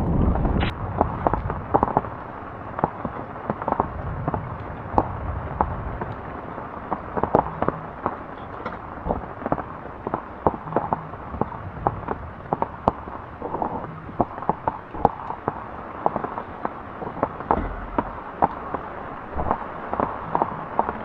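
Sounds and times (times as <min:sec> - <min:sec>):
sharp pops and crackles: 0:00.1 - 0:21.0.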